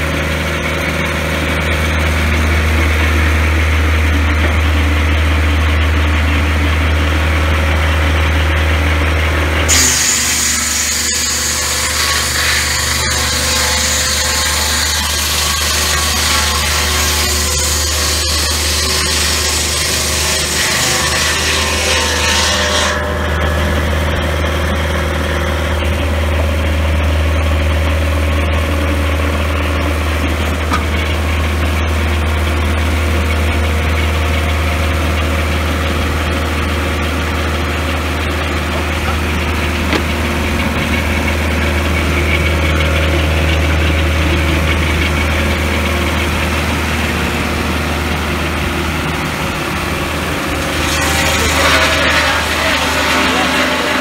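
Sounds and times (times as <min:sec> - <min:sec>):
saw cutting through wood: 0:00.0 - 0:54.0
sawmill engine running: 0:00.0 - 0:54.0.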